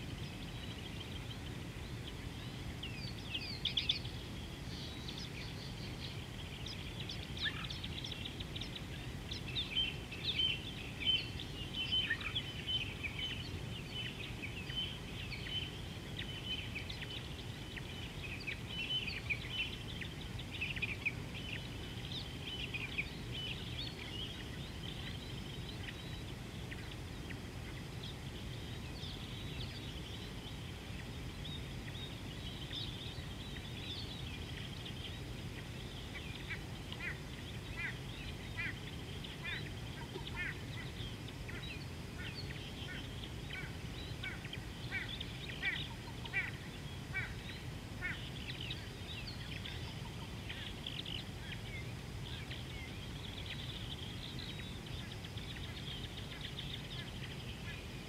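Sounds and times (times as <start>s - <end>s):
birds calling: 0.0s - 58.0s.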